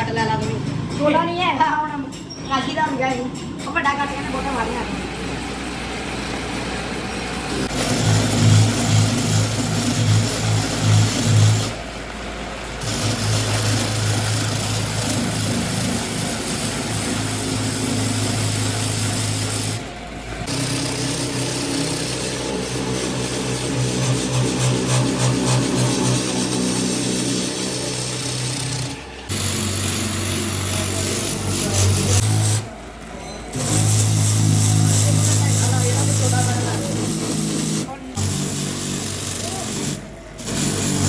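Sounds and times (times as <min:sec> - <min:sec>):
motor-driven machine humming and hissing: 0:04.8 - 0:32.8, 0:33.6 - 0:41.0.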